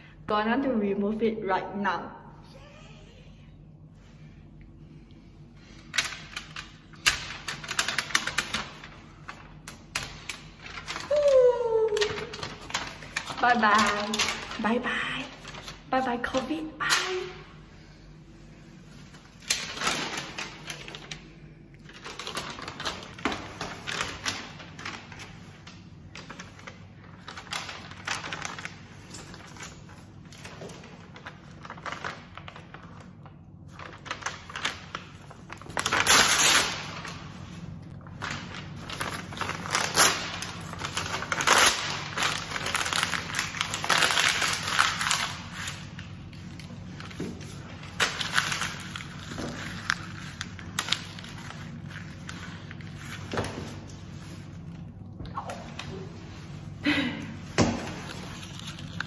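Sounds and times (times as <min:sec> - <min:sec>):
paper crumpling: 0:05.6 - 0:16.4, 0:18.5 - 0:55.0, 0:57.9 - 0:59.0.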